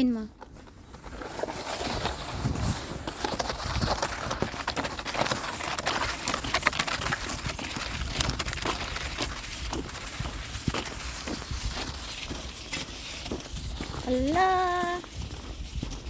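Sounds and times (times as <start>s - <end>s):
footsteps on snow: 0.1s - 16.0s.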